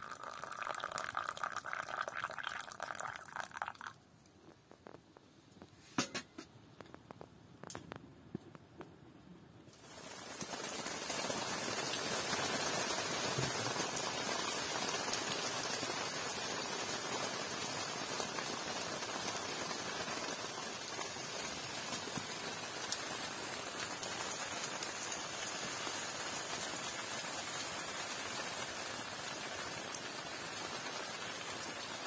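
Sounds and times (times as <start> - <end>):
rain pattering on tent fabric: 0.0 - 5.7, 9.7 - 32.0.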